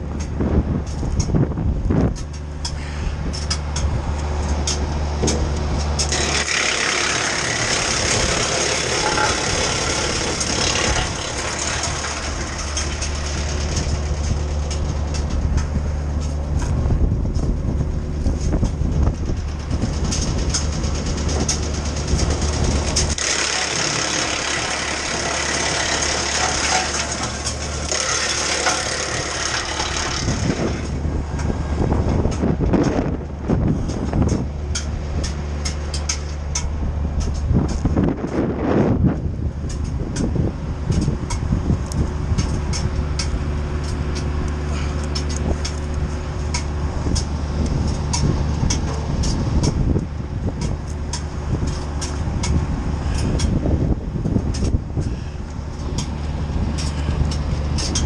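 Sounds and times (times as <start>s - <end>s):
wood chipper humming: 0.0s - 58.0s
branches grinding through chipper: 3.6s - 58.0s.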